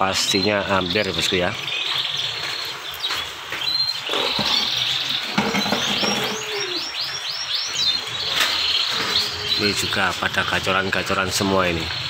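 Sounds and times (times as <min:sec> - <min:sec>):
bird singing swooping notes: 0:00.0 - 0:12.0
canaries singing: 0:00.0 - 0:12.0.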